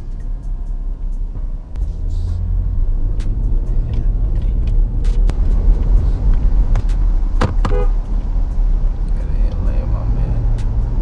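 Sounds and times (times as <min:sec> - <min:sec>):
engine rumble inside car: 0:00.0 - 0:11.0.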